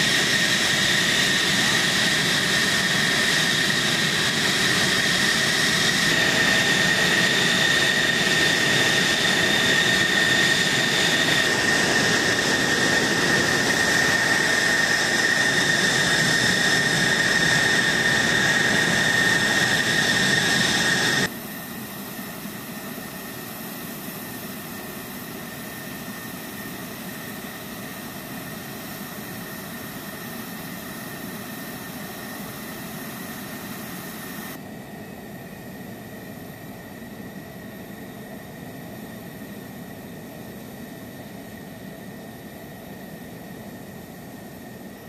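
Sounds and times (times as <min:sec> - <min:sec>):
jet engine high whine: 0:00.0 - 0:45.0
jet engine rush: 0:00.0 - 0:45.0.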